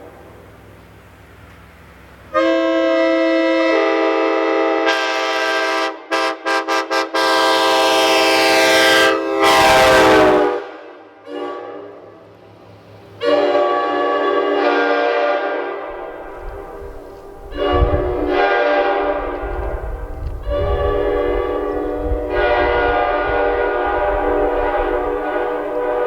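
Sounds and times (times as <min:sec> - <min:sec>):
locomotive air horn: 0:02.3 - 0:12.3, 0:13.1 - 0:26.0.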